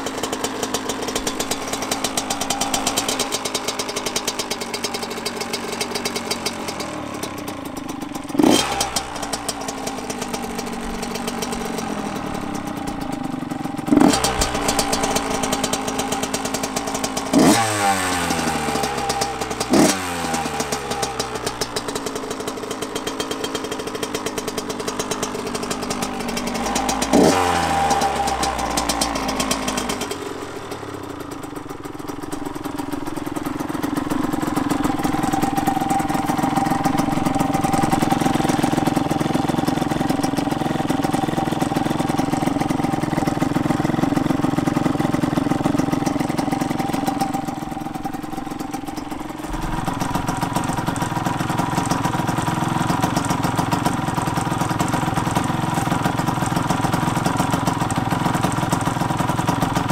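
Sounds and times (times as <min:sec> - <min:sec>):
two-stroke engine idling: 0:00.0 - 0:59.9.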